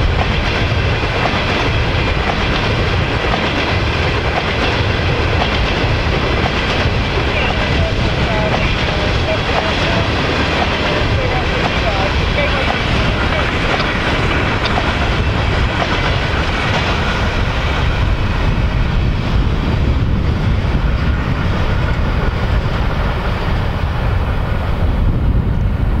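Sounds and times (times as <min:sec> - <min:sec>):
freight train rolling on tracks: 0:00.0 - 0:26.0.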